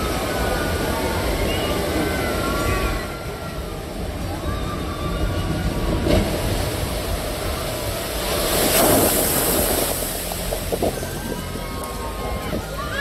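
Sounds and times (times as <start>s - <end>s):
rushing wave of spray: 0.0s - 13.0s.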